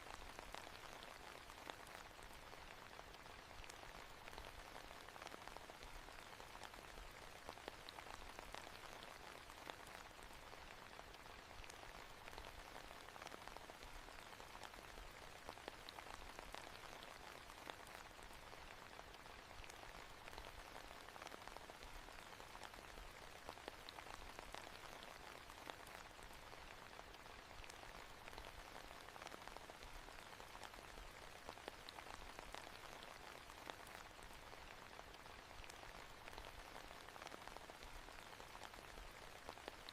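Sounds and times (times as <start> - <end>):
rain hiss: 0.0 - 39.9
raindrop ticks: 0.0 - 39.9.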